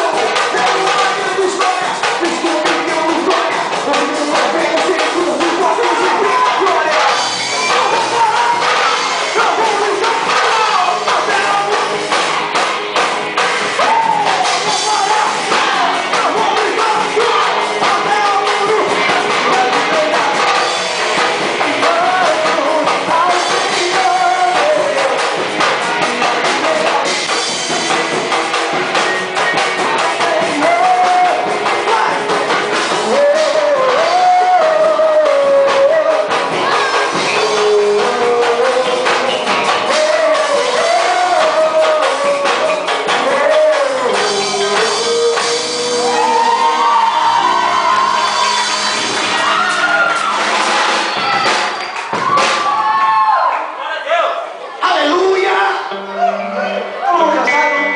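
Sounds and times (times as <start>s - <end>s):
person singing: 0.0s - 12.4s, 13.4s - 49.8s, 54.8s - 57.9s
band playing praise song: 0.0s - 57.9s.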